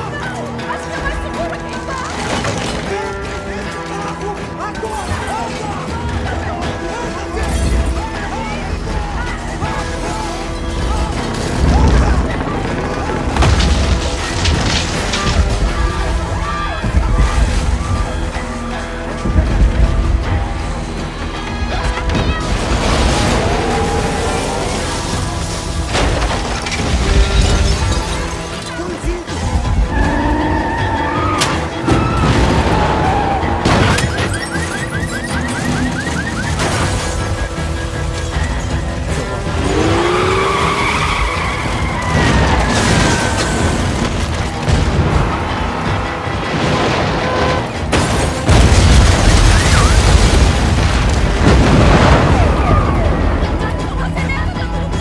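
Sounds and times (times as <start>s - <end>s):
car noise: 0.0s - 55.0s
crashing and shattering: 0.0s - 55.0s
dramatic music: 0.0s - 55.0s
rumbling and booming destruction: 0.0s - 55.0s.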